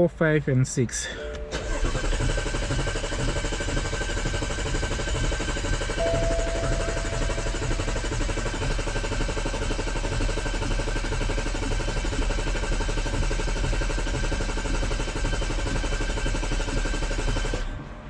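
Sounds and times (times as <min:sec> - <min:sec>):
engine cranking without firing: 0:01.1 - 0:17.9.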